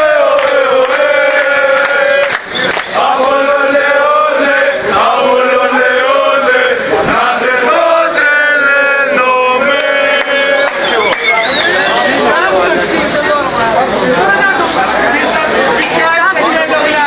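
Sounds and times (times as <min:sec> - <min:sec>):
crowd chanting: 0:00.0 - 0:17.0.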